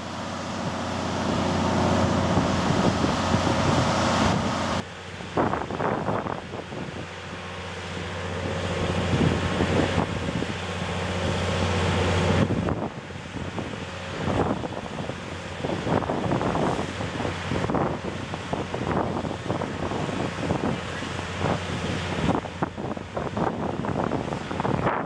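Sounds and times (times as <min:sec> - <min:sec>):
low machinery hum: 0:00.0 - 0:25.0
wind buffeting microphone: 0:00.0 - 0:25.0.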